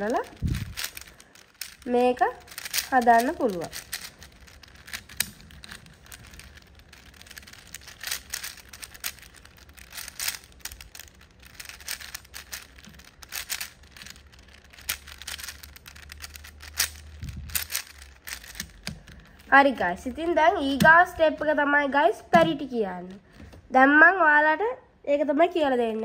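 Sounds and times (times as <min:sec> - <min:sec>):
speed cube clicking: 0:00.0 - 0:21.6.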